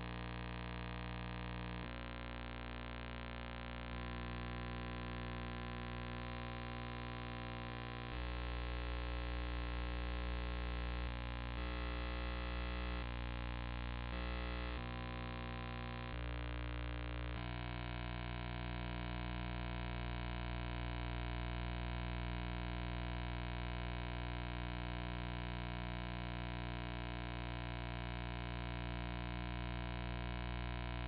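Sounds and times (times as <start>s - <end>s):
electrical hum and buzz: 0.0s - 31.0s.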